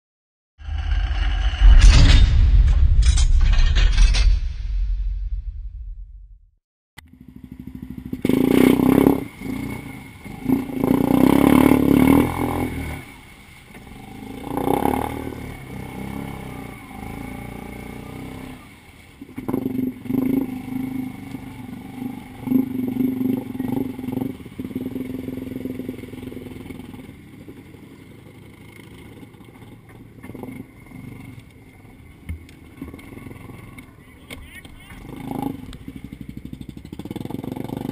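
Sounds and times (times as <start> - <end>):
atv engine revving: 7.0 - 37.9.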